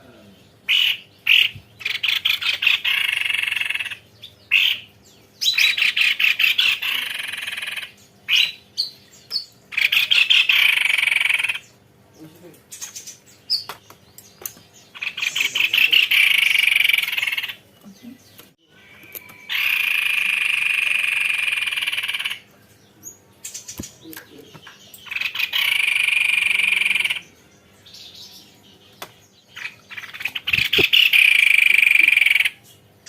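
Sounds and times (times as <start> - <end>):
babbler singing rolling trills: 0.0 - 33.0.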